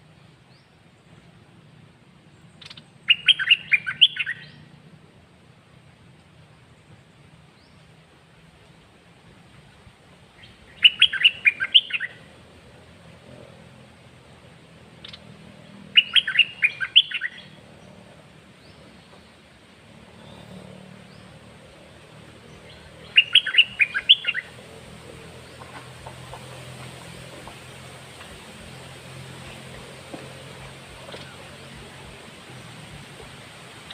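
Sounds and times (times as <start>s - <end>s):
songbird singing: 0.0s - 8.9s, 9.5s - 33.9s.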